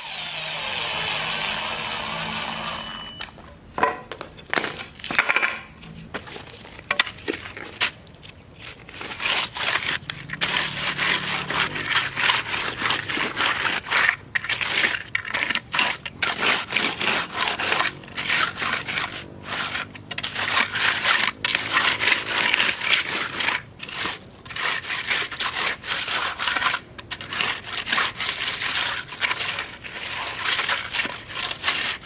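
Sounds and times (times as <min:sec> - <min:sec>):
hand tool scraping wet concrete: 0:00.0 - 0:03.4, 0:05.8 - 0:32.0.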